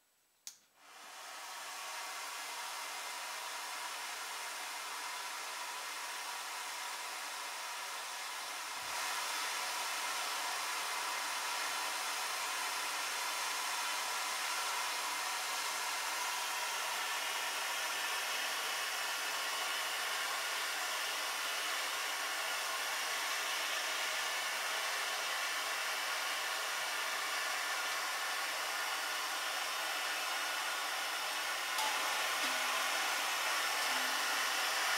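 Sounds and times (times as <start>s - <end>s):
vacuum cleaner running: 0.8s - 34.9s.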